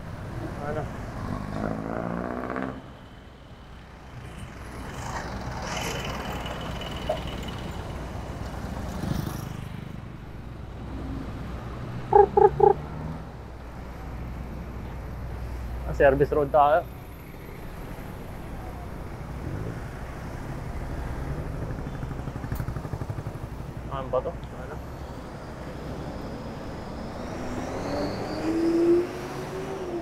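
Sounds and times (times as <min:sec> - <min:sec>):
passing vehicle engine: 0:00.0 - 0:03.0, 0:03.9 - 0:10.0, 0:10.8 - 0:16.2, 0:17.0 - 0:30.0
road rumble: 0:00.0 - 0:30.0.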